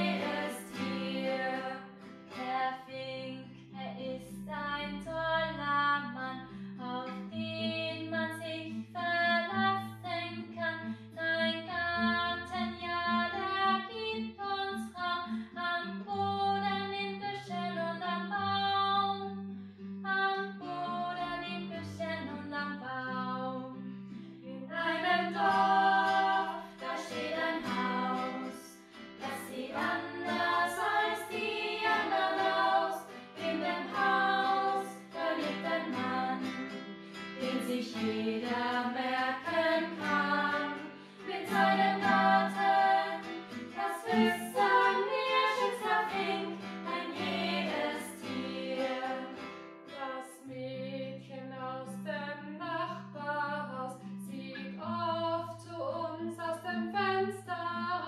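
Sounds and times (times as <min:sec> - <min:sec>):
women singing: 0:00.0 - 0:19.3, 0:20.1 - 0:23.8, 0:24.5 - 0:58.0.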